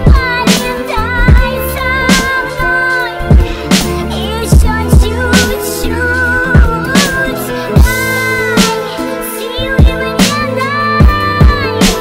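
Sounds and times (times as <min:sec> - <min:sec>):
sliding melodic lead: 0:00.0 - 0:12.0
wordless vocal-like line: 0:00.6 - 0:12.0.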